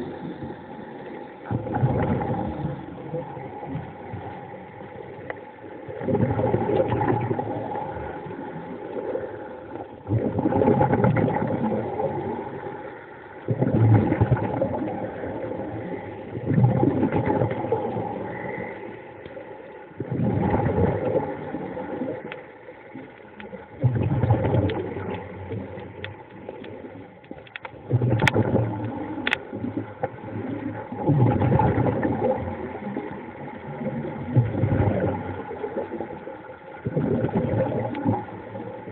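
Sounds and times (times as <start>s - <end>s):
underwater air bubbles: 0.0s - 38.9s.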